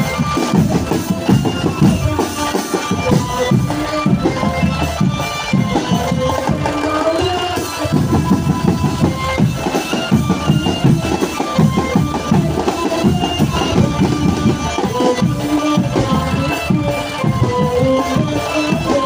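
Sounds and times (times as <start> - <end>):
fast steady drumming: 0.0 - 19.0.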